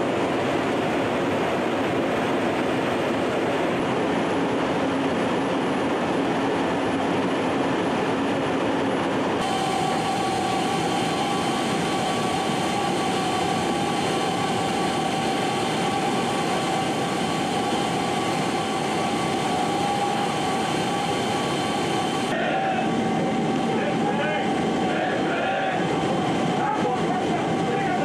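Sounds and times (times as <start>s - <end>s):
aircraft cabin drone with whine: 0.0s - 28.0s
jet aircraft low hum: 0.0s - 28.0s.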